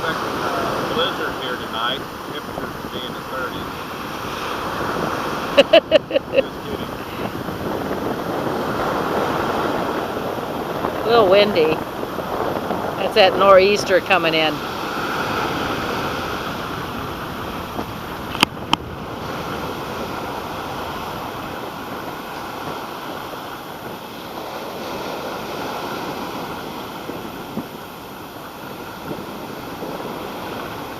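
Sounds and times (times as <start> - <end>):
waves washing: 0.0 - 30.9
wind on microphone: 0.0 - 30.9.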